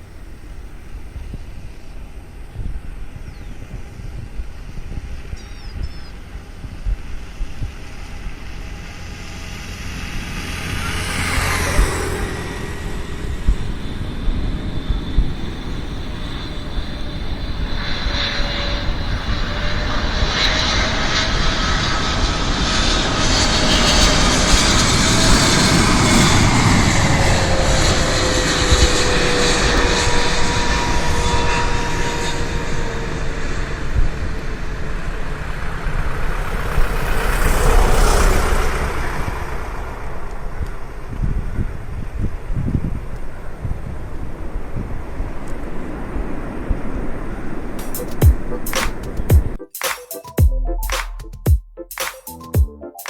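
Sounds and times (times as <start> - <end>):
jet engines passing by: 6.2 - 49.6.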